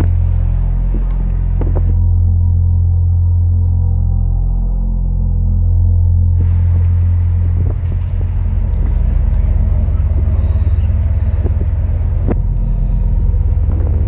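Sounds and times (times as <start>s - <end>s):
steady low pulsing rumble: 0.0s - 14.0s.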